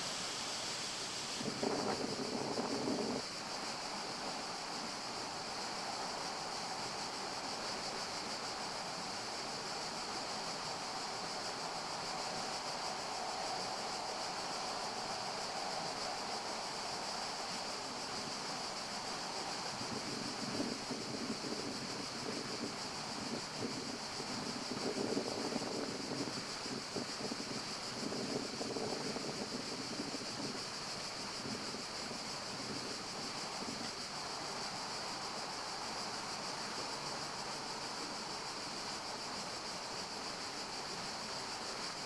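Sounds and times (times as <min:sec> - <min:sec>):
airy hiss: 0:00.0 - 0:42.0
leaves rustling in wind: 0:00.0 - 0:42.0.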